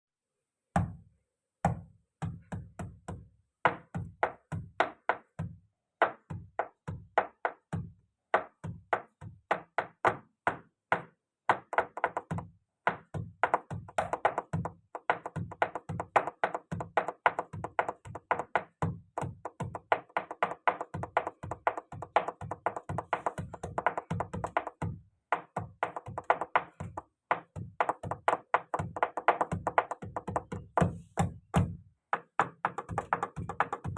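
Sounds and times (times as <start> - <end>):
rhythmic knocking on hard surface: 1.7 - 33.9.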